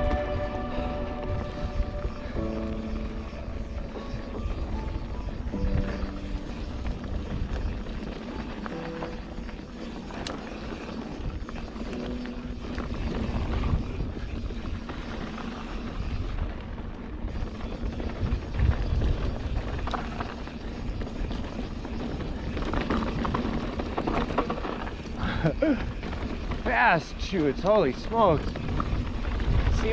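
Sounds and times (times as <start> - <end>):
bike tyre noise: 0.0 - 29.9
wind buffeting microphone: 0.0 - 29.9
bike clicks and rattles: 1.5 - 29.9.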